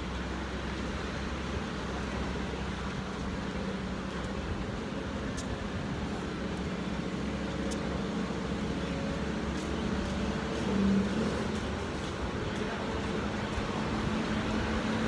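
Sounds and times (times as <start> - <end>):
low engine hum: 0.0 - 15.0
road traffic noise: 0.0 - 15.0.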